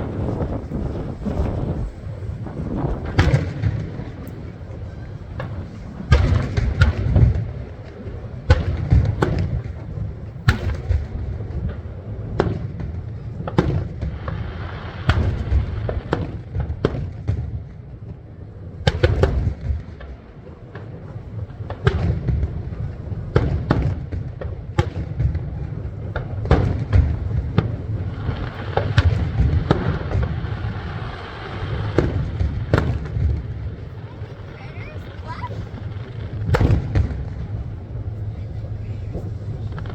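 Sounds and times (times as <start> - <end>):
low rumble of booms: 0.0 - 18.2, 18.8 - 39.9
fireworks sharp bangs: 0.0 - 39.9.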